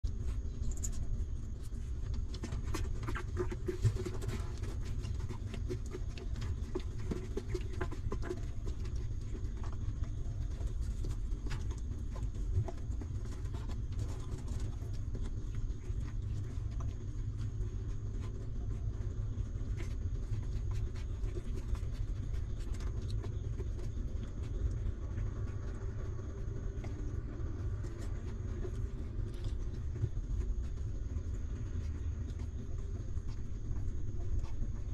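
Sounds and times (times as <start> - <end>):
faint high whine: 0.0 - 34.9
low rumble: 0.0 - 34.9.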